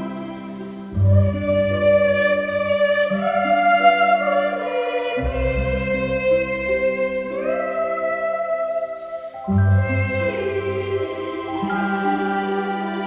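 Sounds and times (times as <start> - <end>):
choir-like sustained chords: 0.0 - 13.0.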